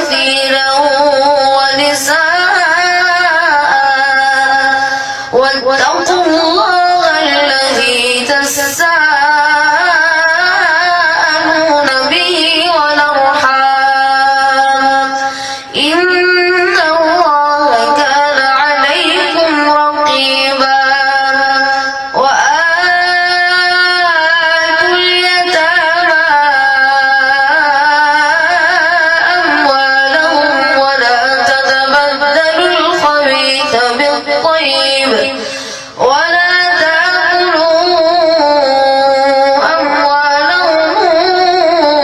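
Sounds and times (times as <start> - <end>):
boy chanting melodically: 0.0 - 42.0.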